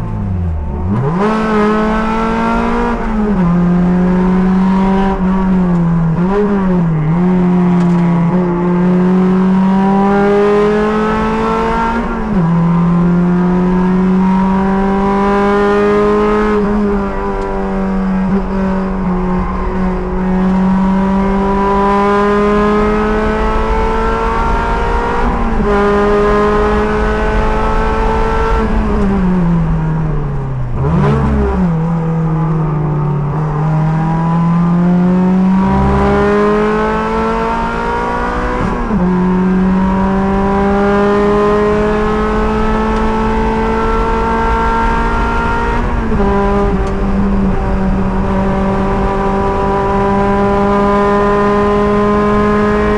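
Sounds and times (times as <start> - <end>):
sports car engine revving: 0.0 - 52.9.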